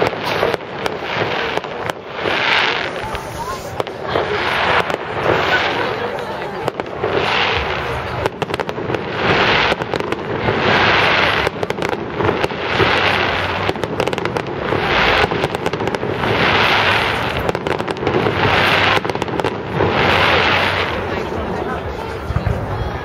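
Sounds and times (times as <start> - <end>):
fireworks crackling bursts: 0.0 - 23.0
fireworks sharp bangs: 0.0 - 23.0.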